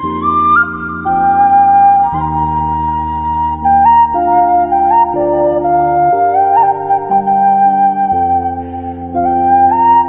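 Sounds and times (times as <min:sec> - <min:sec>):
slow melodic background music: 0:00.0 - 0:10.0.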